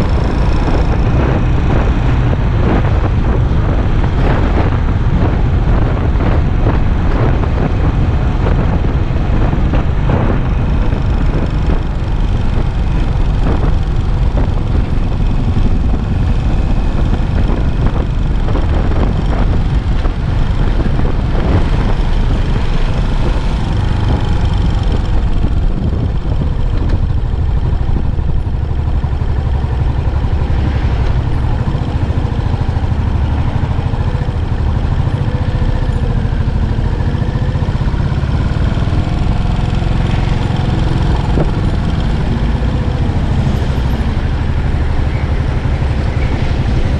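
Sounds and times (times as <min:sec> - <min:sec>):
motorcycle engine rumbling: 0:00.0 - 0:46.9.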